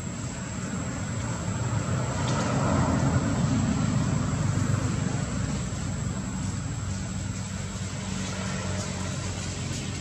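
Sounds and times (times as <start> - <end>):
distant engine rumble: 0.0 - 10.0.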